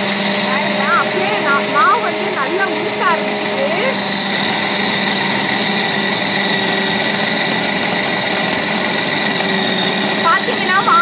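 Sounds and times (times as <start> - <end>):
mixer grinder motor running: 0.0 - 11.0.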